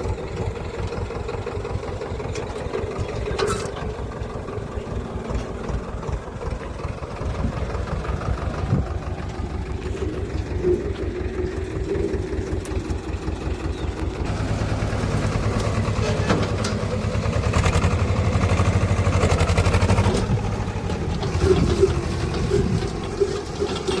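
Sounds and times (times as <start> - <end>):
tractor diesel engine pulsing: 0.0 - 24.0.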